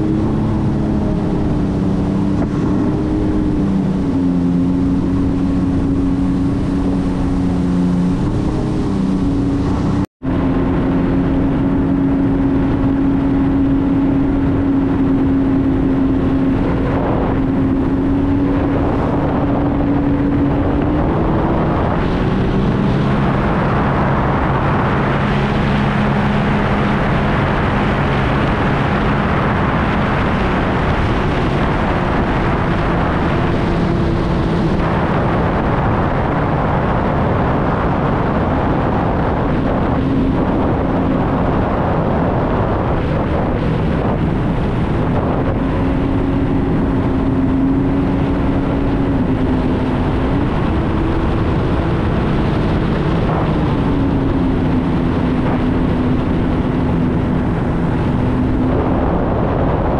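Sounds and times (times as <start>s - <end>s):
personal watercraft engine running: 0.0s - 59.9s
rushing water noise: 0.0s - 59.9s.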